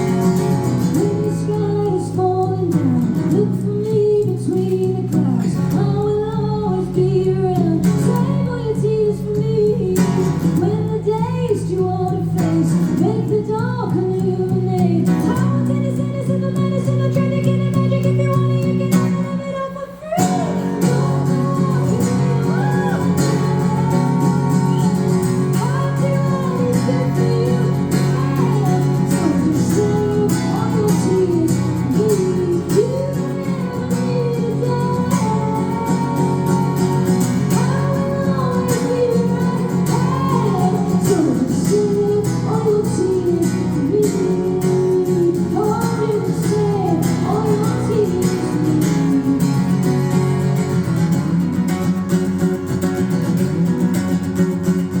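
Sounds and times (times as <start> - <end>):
woman singing: 0.0 - 51.4
strummed guitar: 0.0 - 55.0.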